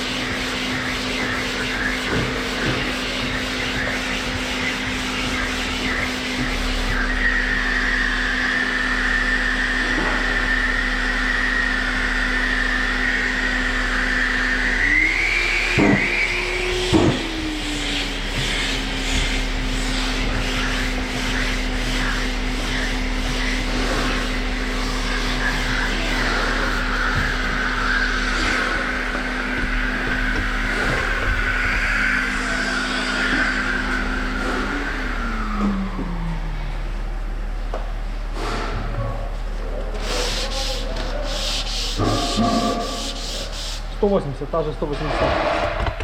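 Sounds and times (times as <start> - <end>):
power sander running: 0.0 - 37.2
dust vacuum running: 0.0 - 38.6, 39.3 - 45.2.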